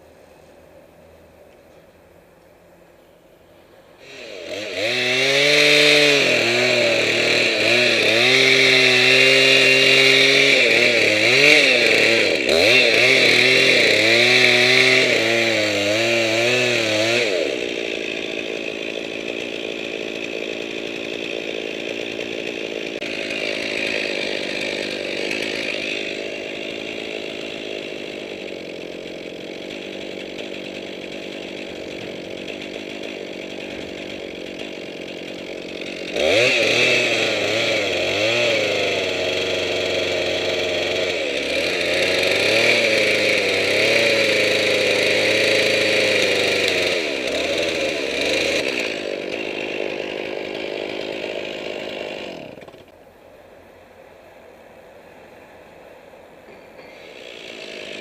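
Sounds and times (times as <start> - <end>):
gas chainsaw revving: 4.0 - 52.9, 56.8 - 58.0.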